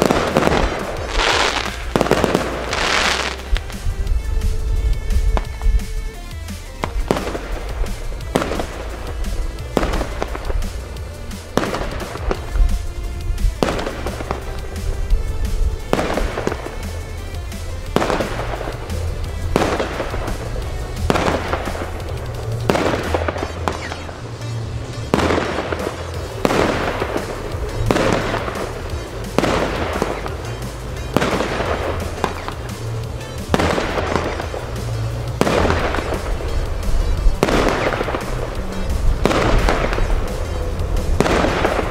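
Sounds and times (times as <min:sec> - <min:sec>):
firework bangs with crackling: 0:00.0 - 0:41.9.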